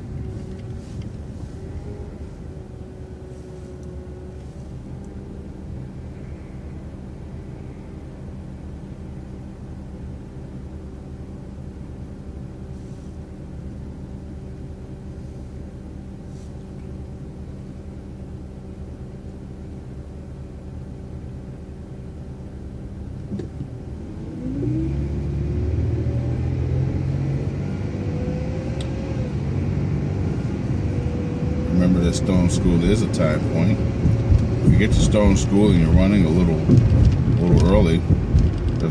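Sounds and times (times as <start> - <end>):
bus engine running: 0.0 - 38.9
rising engine whine: 0.0 - 38.9.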